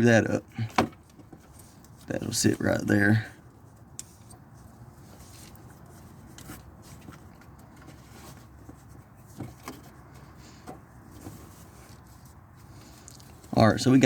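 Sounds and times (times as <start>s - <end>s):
low steady background noise: 0.0s - 14.0s
faint knocks and rustles: 0.6s - 2.8s, 3.4s - 13.7s.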